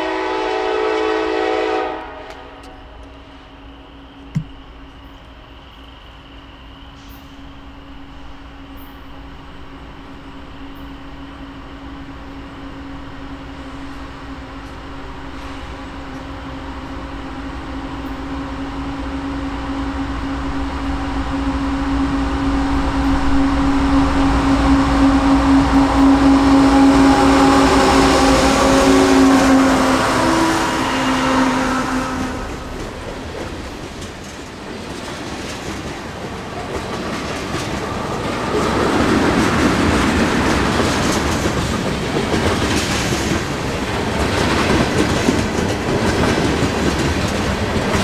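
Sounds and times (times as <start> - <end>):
diesel locomotive engine drone: 0.0 - 48.0.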